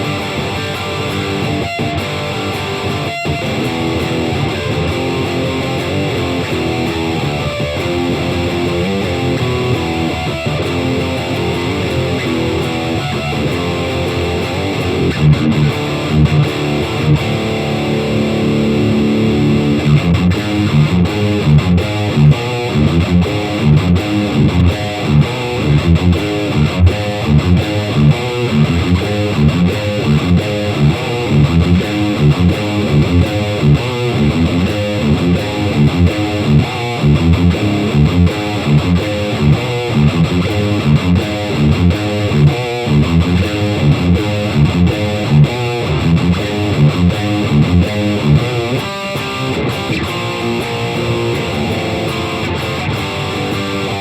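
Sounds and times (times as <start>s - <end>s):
electric guitar riff: 0.0s - 54.0s.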